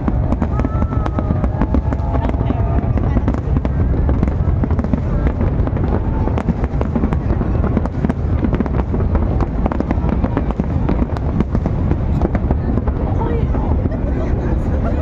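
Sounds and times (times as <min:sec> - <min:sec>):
fireworks bangs and crackles: 0:00.0 - 0:15.0
low rumble: 0:00.0 - 0:15.0.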